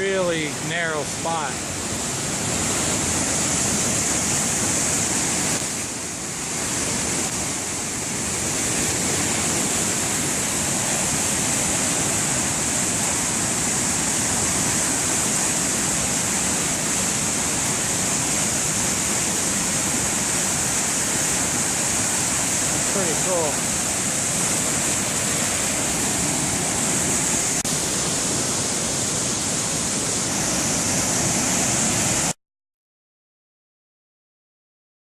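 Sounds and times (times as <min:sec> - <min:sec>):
waterfall rushing: 0:00.0 - 0:32.4.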